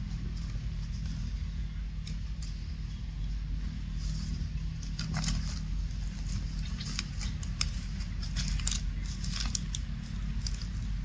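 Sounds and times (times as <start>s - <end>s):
dry leaves crackling: 0.0s - 11.0s
steady low rumble: 0.0s - 11.0s.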